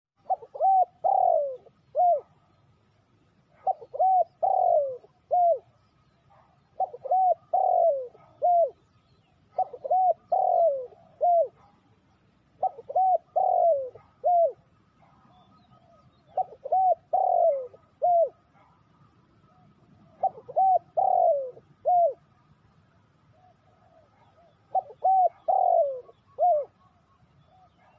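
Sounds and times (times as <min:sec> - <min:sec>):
dove cooing: 0:00.2 - 0:02.5, 0:03.4 - 0:27.9.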